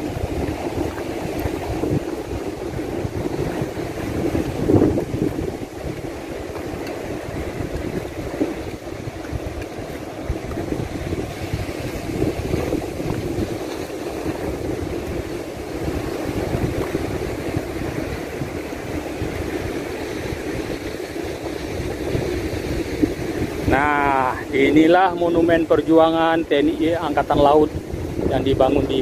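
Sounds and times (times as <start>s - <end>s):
sea surf: 0.0s - 29.0s
wind buffeting microphone: 0.0s - 29.0s.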